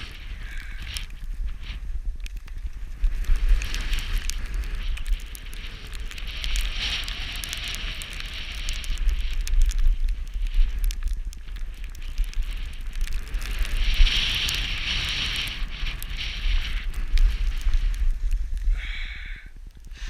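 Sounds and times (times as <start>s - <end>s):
skis scraping on snow: 0.0s - 18.8s
wind buffeting microphone: 0.0s - 20.0s.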